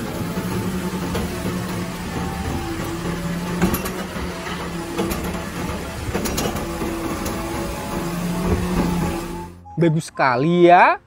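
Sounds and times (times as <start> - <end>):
garbage truck hydraulic hum: 0.0 - 9.6.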